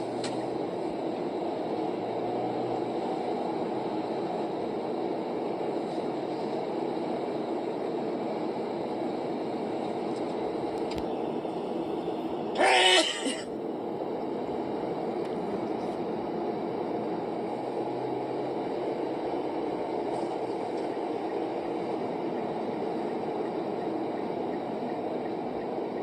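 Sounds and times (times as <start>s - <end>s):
road and engine noise in car: 0.0s - 26.0s.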